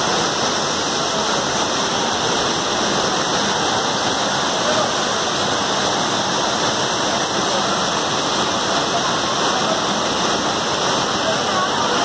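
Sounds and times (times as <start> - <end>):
floodwater rushing: 0.0 - 12.0
heavy rain: 0.0 - 12.0.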